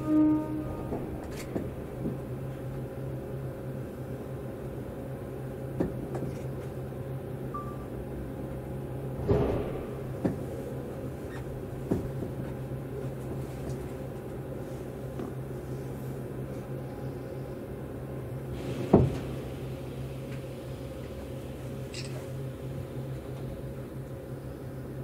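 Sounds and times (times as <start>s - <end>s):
train cabin low hum: 0.0s - 25.0s.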